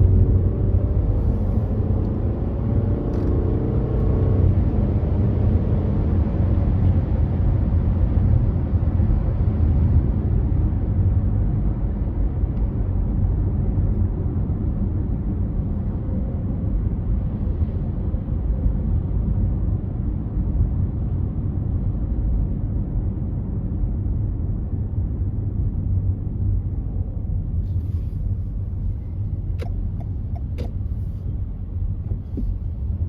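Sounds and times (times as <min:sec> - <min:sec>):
car road and tyre rumble: 0:00.0 - 0:33.0.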